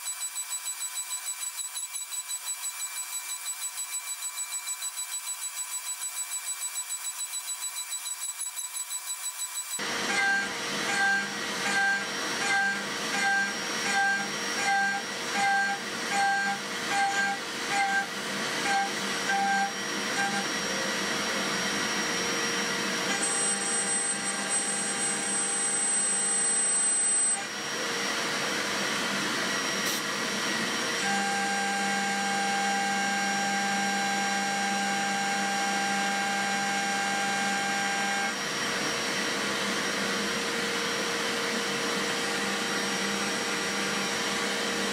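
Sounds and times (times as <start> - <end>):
milling machine cutting steel: 0.0 - 38.4.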